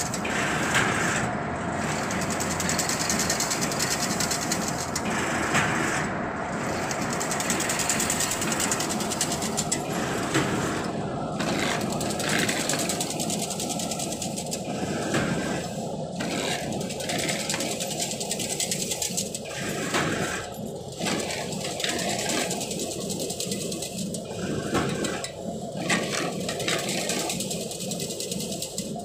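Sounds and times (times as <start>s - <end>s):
machine rapid mechanical clatter: 0.0s - 29.0s.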